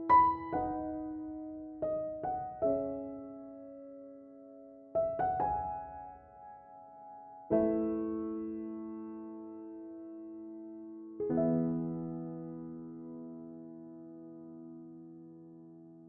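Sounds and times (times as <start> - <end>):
slow soft piano music: 0.0 - 16.0.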